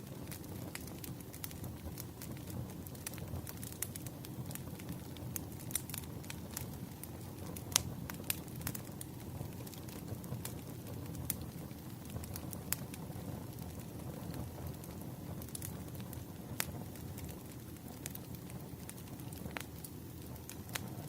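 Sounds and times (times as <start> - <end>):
logs crackling and popping: 0.0 - 21.0
wood fire rumbling: 0.0 - 21.0.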